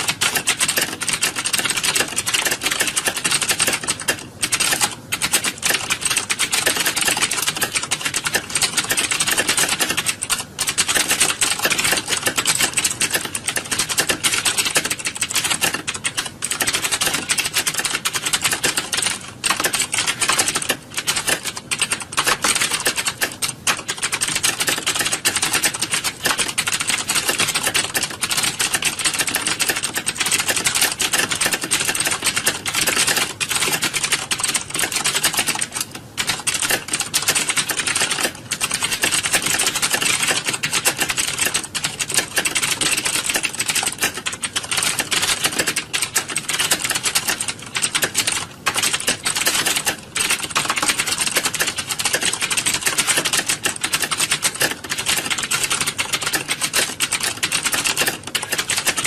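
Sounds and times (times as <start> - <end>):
keyboards clattering: 0.0 - 59.0.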